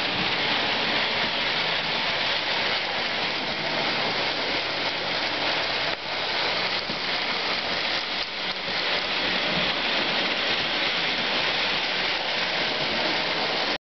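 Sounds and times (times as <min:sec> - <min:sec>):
toy trains whirring on track: 0:00.0 - 0:13.8.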